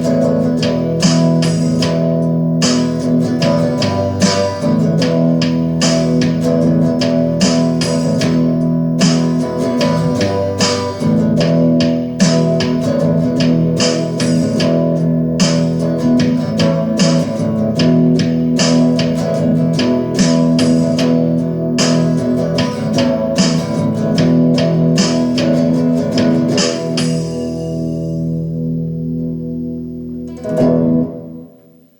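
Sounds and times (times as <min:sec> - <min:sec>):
guitar chords: 0:00.0 - 0:31.9.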